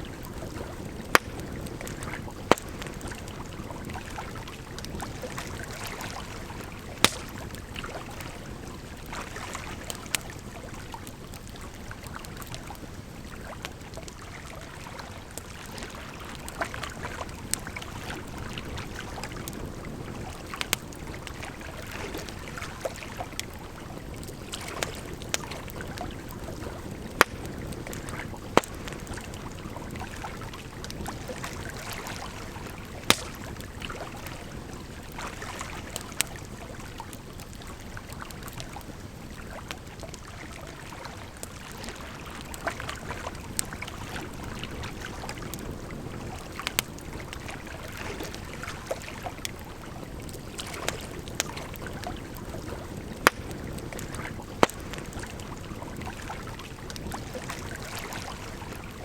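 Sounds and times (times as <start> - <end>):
flowing water: 0.0 - 59.0
wood fire crackling and popping: 0.1 - 14.4, 15.3 - 57.8.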